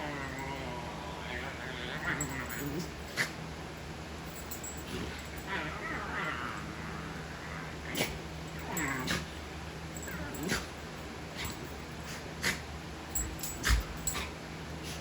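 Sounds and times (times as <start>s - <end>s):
dog vocal sounds: 0.0s - 3.4s, 4.6s - 9.4s, 10.0s - 10.8s, 11.4s - 15.0s.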